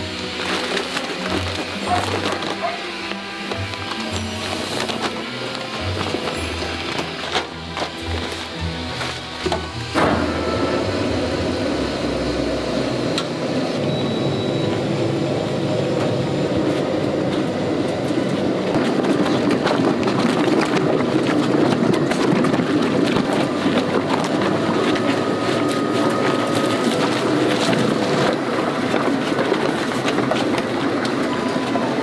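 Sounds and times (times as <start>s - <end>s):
feed mixer churning: 0.0s - 32.0s.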